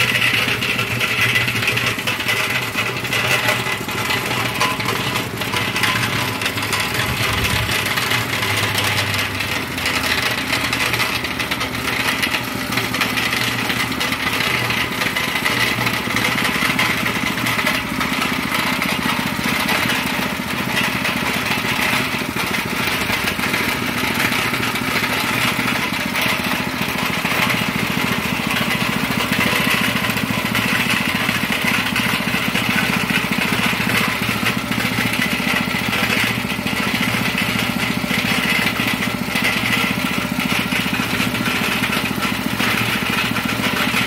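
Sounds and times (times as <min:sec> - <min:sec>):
cement mixer engine running: 0:00.0 - 0:44.0.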